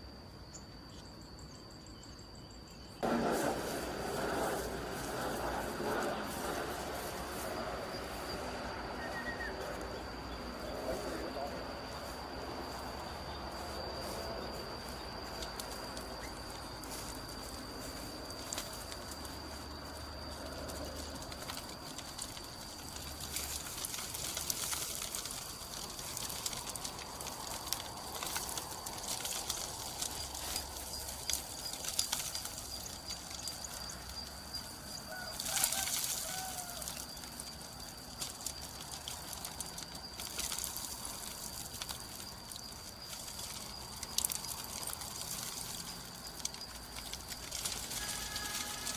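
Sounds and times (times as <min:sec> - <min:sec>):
grass and gravel crunching: 0:03.0 - 0:48.9.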